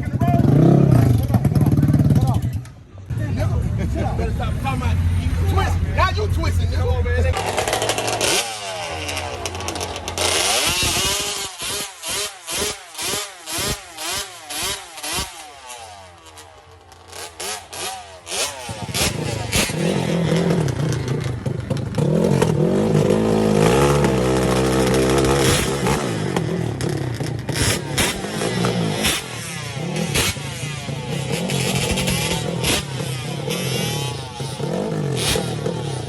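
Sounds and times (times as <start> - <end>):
atv engines revving through gears: 0.0 - 36.0.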